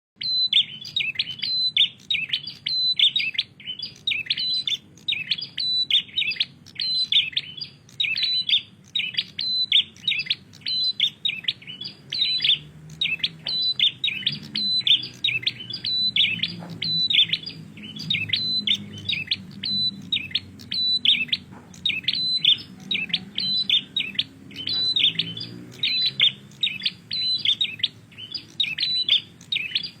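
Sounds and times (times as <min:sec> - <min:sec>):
bird chirping high phrases: 0:00.2 - 0:30.0.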